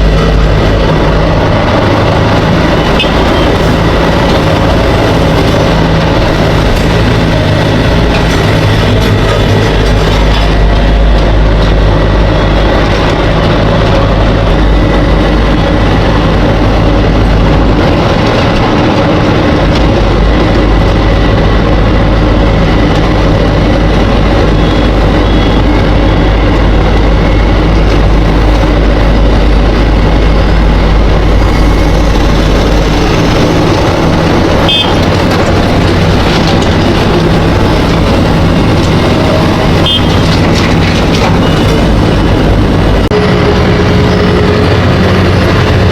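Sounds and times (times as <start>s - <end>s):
road machinery running: 0.0s - 45.9s
vehicle engines running: 0.0s - 45.9s.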